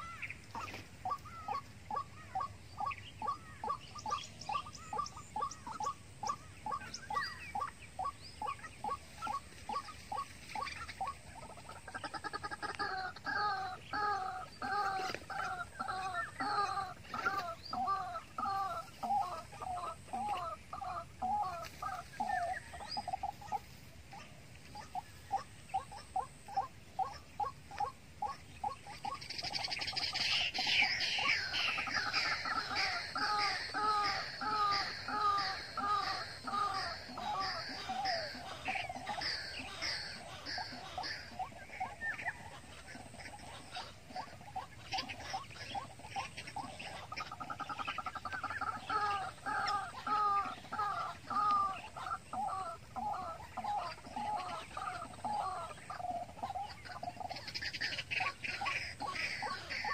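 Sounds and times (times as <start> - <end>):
birds calling harshly: 0.0 - 59.9
higher bird calls: 0.0 - 59.9.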